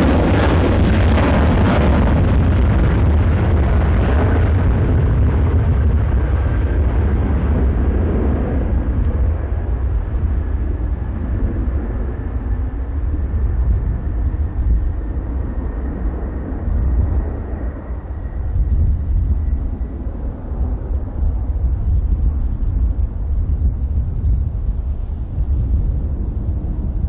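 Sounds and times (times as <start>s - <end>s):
jet engine rumble: 0.0s - 27.0s
jet engine whine: 0.0s - 27.0s.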